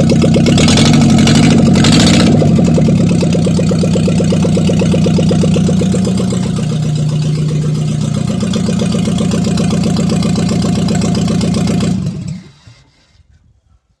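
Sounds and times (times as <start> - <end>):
car engine idling: 0.0 - 12.7.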